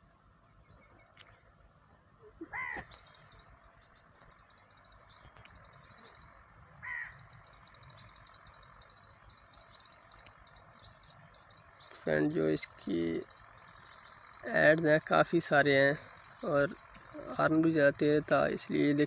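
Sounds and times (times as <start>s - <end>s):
bird calling: 0.0s - 19.0s.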